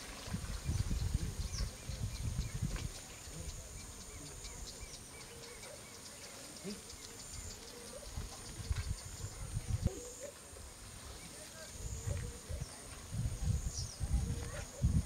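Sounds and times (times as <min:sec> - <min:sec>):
small birds chirping: 0:00.0 - 0:10.3, 0:11.1 - 0:15.0.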